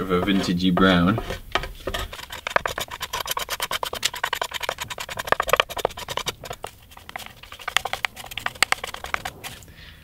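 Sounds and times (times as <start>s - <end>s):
metal scraper scratching wood: 0.0s - 9.7s.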